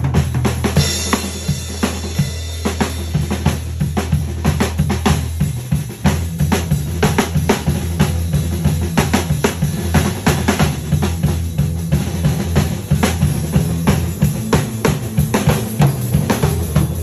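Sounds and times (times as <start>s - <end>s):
drum kit solo: 0.0s - 17.0s.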